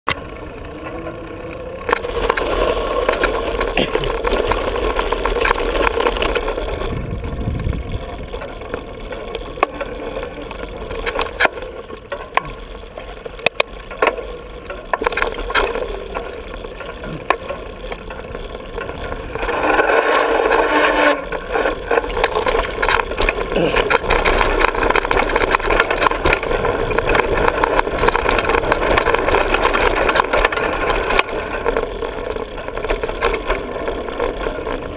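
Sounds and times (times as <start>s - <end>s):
bike rattles and knocks: 0.1s - 34.9s
bike tyres crunching on gravel: 0.1s - 34.9s
wind rumbling on microphone: 0.2s - 34.9s.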